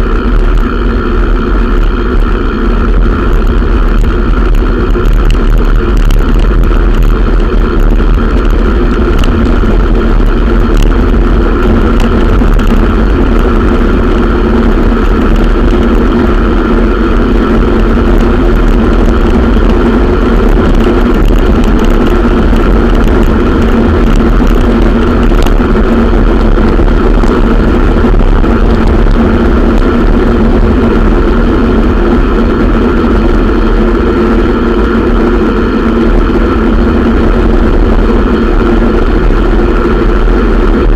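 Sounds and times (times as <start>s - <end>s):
even hum: 0.0s - 40.9s
low rumble: 0.0s - 40.9s
road noise: 0.0s - 40.9s.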